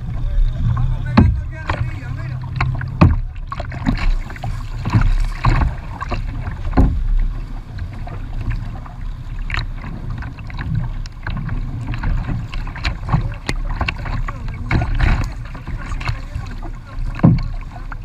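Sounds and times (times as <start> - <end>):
water splashing against kayak hull: 0.0 - 18.0
wind rumble on microphone: 0.0 - 18.0.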